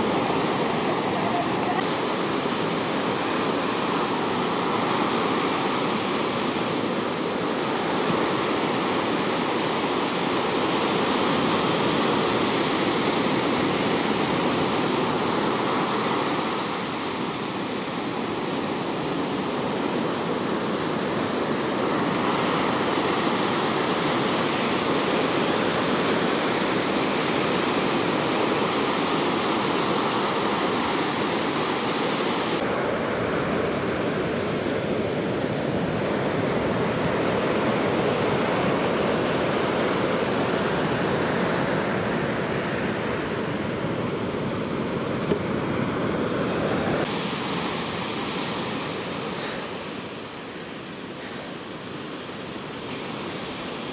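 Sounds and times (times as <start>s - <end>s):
ocean surf breaking on beach: 0.0s - 53.9s.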